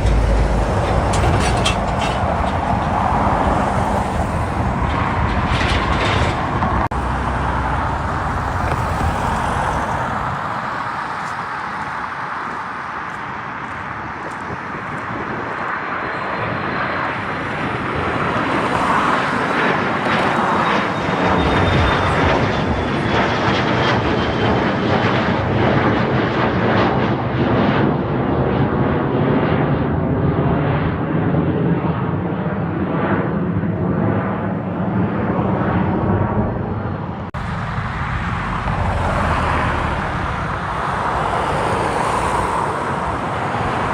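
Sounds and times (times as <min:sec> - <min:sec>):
jet engines roaring: 0:00.0 - 0:43.9.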